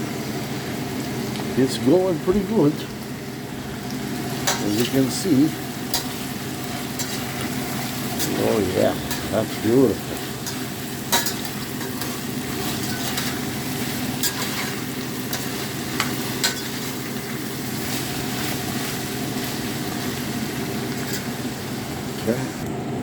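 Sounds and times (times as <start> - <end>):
food sizzling in a pan: 0.0 - 22.6.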